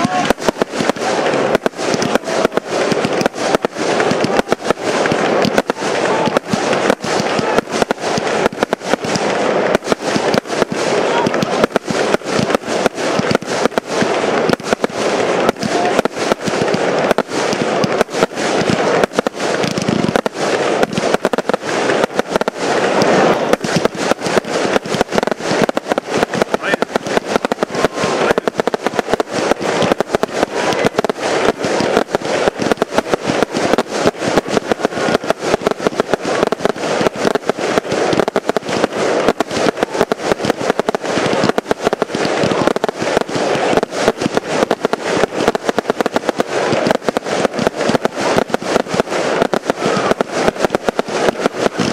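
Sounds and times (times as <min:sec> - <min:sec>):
fireworks barrage: 0:00.0 - 0:51.9.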